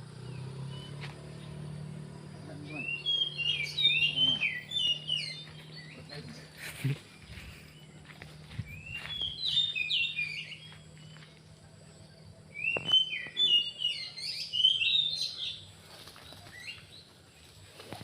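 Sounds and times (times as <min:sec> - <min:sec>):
bird chirps and gliding notes: 0:00.0 - 0:17.7.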